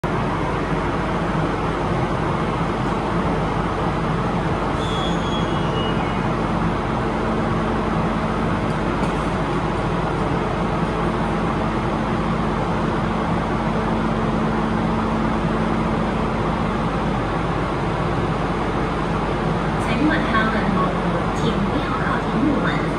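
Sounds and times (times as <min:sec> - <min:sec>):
train humming: 0:00.0 - 0:22.9.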